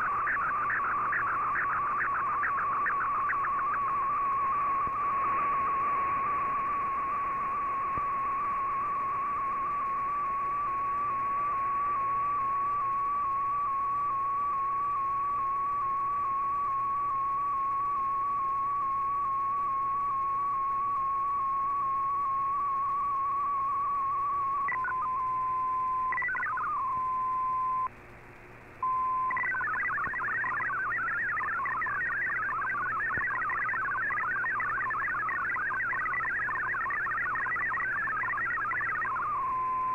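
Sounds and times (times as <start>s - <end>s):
burbling multi-tone data warble: 0.0s - 27.9s, 28.8s - 39.9s
steady radio tone: 0.0s - 27.9s, 28.8s - 39.9s
wavering radio whistle: 0.0s - 27.9s, 28.8s - 39.9s
radio hiss: 0.0s - 39.9s.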